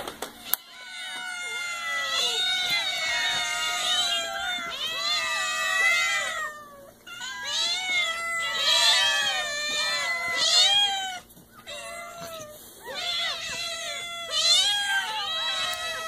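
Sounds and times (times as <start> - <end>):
cats meowing: 0.2 - 16.0.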